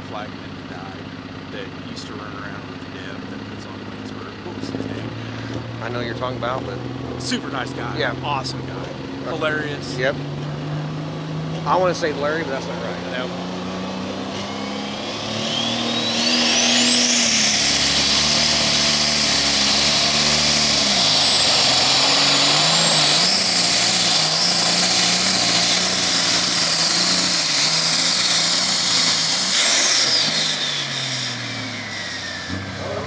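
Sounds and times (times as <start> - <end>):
shrill turbo whine: 0.0 - 33.0
tractor diesel engine under power: 0.0 - 33.0.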